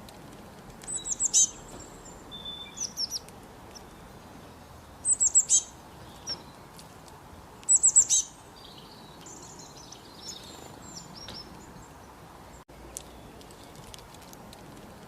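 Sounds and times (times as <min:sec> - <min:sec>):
bird chirps and twittering: 0:00.8 - 0:06.8, 0:07.6 - 0:14.0.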